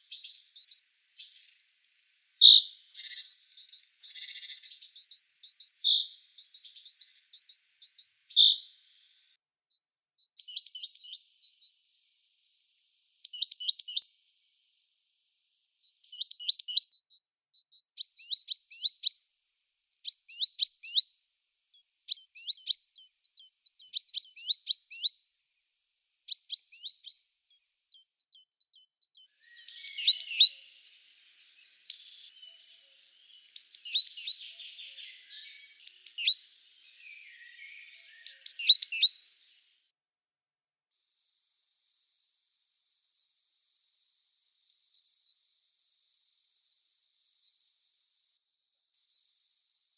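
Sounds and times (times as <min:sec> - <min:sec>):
small songbird chirping: 0:00.0 - 0:40.0, 0:40.9 - 0:49.9.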